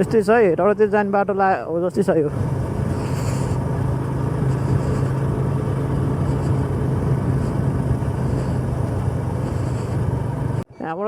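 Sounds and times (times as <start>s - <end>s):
vehicle engine running: 0.0s - 10.7s
road noise: 0.0s - 11.0s.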